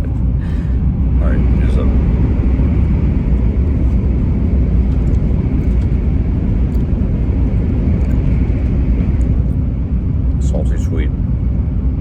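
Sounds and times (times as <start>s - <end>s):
train rumble from inside cabin: 0.0s - 12.0s.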